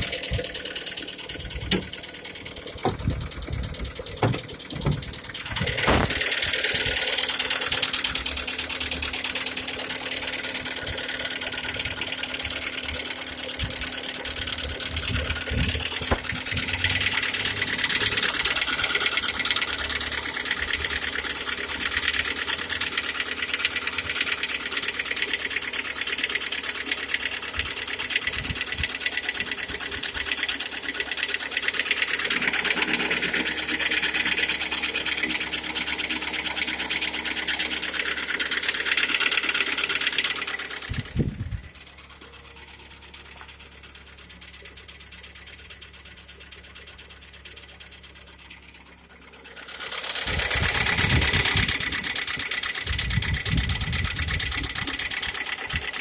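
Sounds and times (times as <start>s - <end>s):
engine running with metallic knocking: 0.0s - 56.0s.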